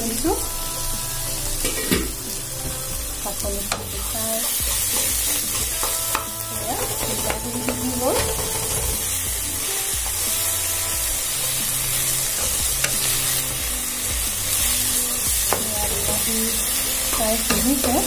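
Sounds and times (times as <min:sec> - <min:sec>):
food sizzling in oil: 0:00.0 - 0:18.0
soft background music: 0:00.0 - 0:18.0.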